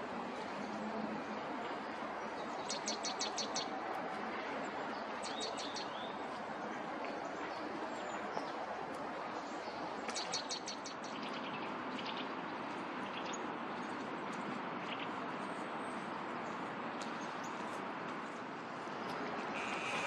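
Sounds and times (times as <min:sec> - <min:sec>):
songbirds chirping: 0:00.3 - 0:20.0.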